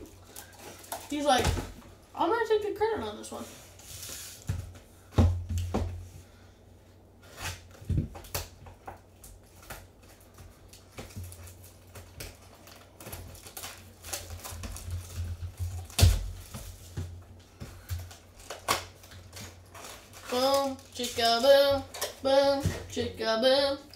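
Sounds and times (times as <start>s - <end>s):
foil packs rustling: 0.0s - 5.1s, 7.2s - 23.0s.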